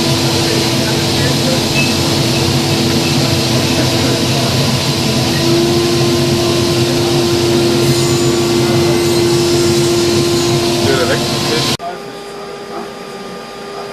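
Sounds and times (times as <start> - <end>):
machine humming and whining: 0.0 - 13.9.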